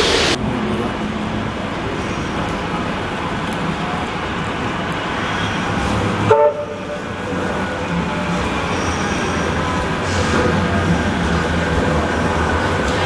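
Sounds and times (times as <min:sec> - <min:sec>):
street and rail vehicle rumble: 0:00.0 - 0:13.0.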